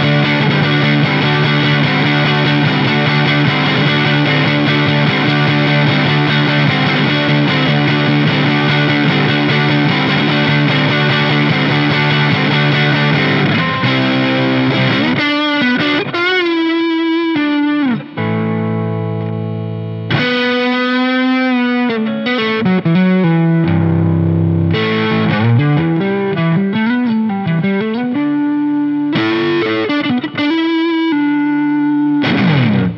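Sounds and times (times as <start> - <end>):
distorted electric guitar: 0.0 - 32.9.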